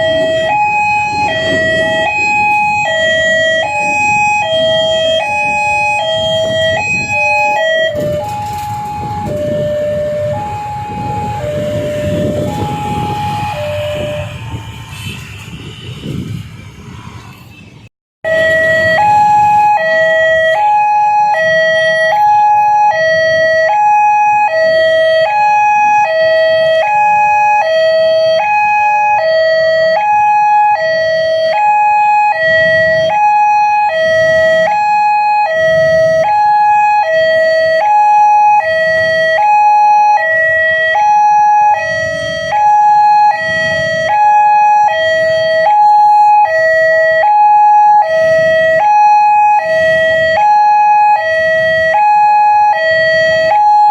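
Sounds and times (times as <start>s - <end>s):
two-tone level crossing alarm: 0.0s - 15.2s, 18.2s - 53.9s.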